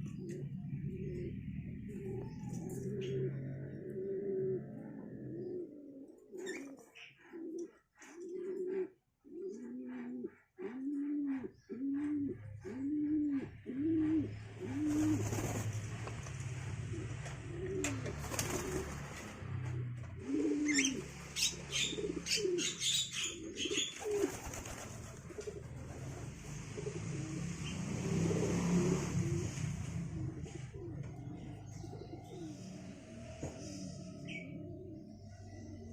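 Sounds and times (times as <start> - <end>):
pigeon cooing: 0.0 - 35.9.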